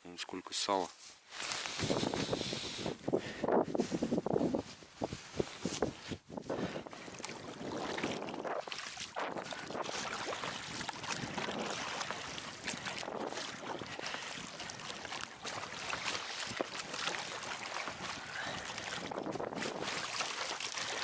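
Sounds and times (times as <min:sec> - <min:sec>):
wind gusting across microphone: 0:01.6 - 0:21.0
water splashing against rubber boat: 0:03.9 - 0:21.0.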